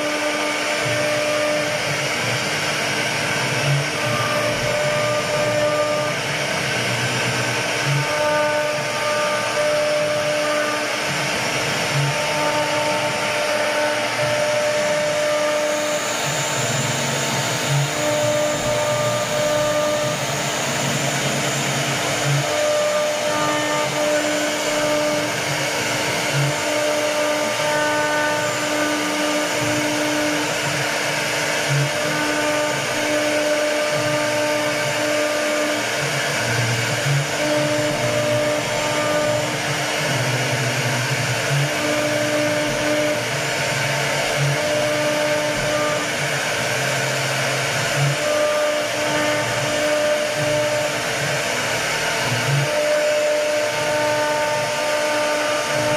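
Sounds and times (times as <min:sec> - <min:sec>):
router spindle cutting wood: 0:00.0 - 0:55.9.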